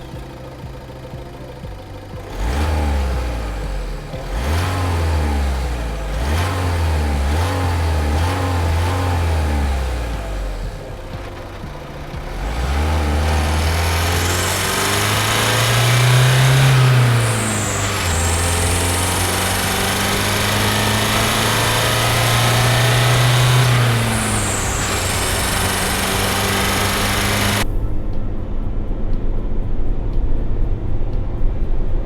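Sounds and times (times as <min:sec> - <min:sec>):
diesel van engine accelerating: 0:00.0 - 0:32.0.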